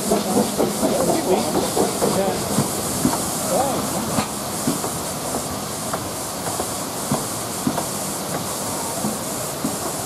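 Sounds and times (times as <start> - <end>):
steady hiss: 0.0 - 10.0
train wheels clicking over rail joints: 0.0 - 10.0.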